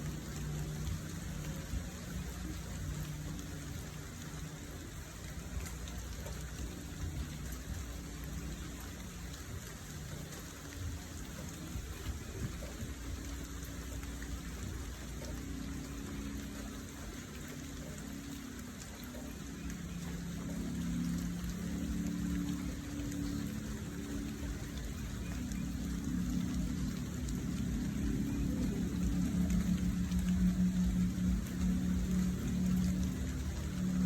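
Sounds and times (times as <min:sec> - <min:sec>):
low hum: 0:00.0 - 0:34.0
steady rain falling: 0:00.0 - 0:34.0.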